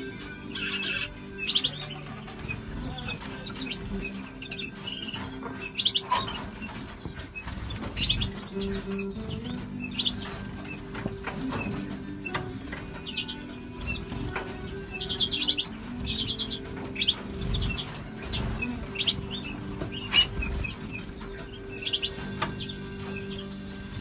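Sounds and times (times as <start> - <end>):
birds chirping: 0.0 - 24.0
steady low hum: 0.0 - 24.0
wings fluttering: 0.0 - 24.0.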